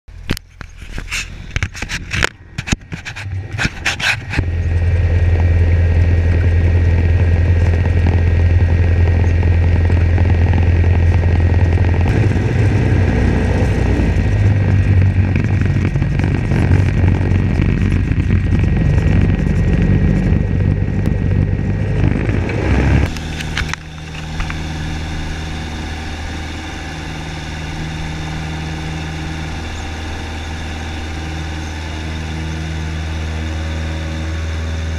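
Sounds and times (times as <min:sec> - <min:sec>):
airplane engine drone: 0:00.1 - 0:34.9.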